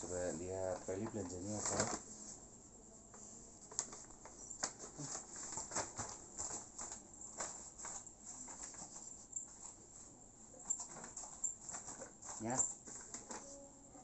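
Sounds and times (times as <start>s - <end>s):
paper bag rustling: 0.0s - 2.4s, 3.1s - 10.1s, 10.7s - 13.6s.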